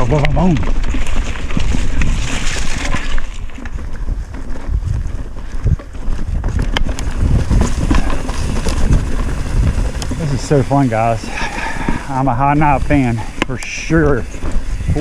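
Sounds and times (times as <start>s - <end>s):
bike knocks and rattles: 0.0s - 15.0s
bike rolling on rocky trail: 0.0s - 15.0s
wind buffeting microphone: 0.0s - 15.0s.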